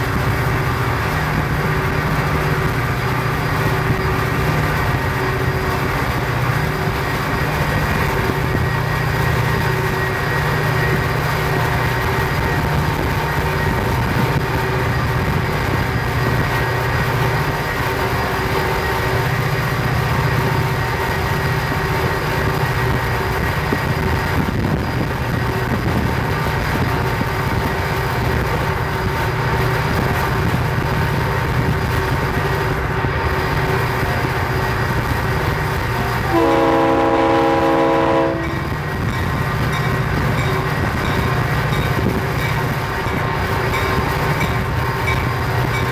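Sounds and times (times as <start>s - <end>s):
diesel locomotives running: 0.0s - 45.9s
road noise: 0.0s - 45.9s.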